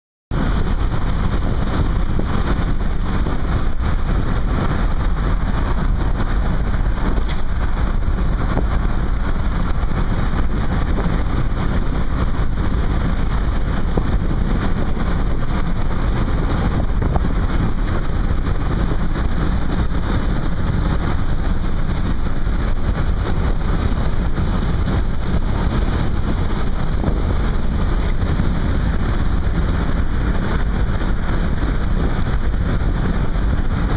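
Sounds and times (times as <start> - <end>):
road and wind noise in car: 0.3 - 33.9.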